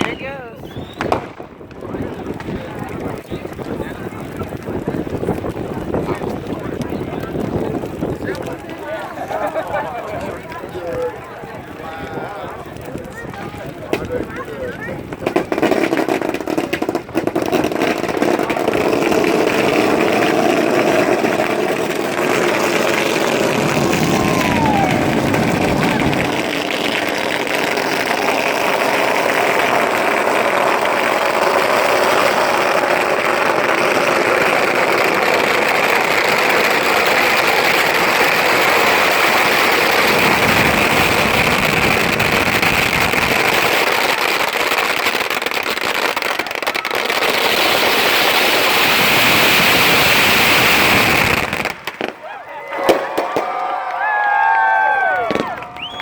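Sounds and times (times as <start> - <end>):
bonfire roaring: 0.2 - 56.0.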